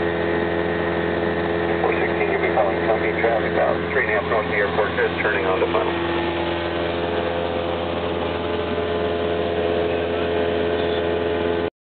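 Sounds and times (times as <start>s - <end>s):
propeller plane engine droning: 0.0s - 11.7s.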